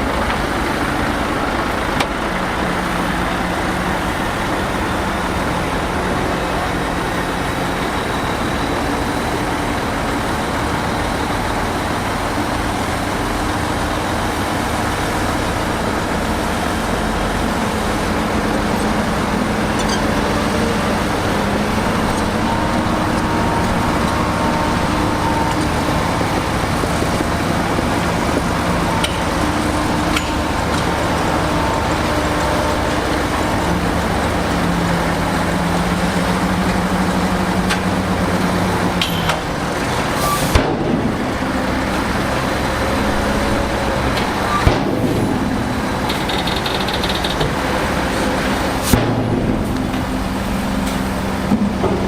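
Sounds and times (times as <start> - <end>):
diesel machinery running: 0.0 - 52.0.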